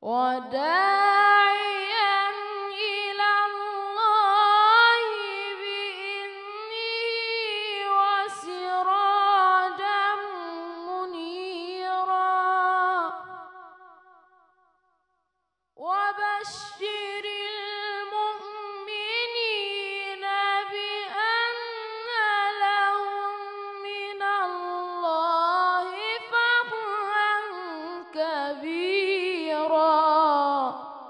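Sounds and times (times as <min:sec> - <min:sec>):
boy reciting melodically: 0:00.0 - 0:13.6, 0:15.8 - 0:31.0.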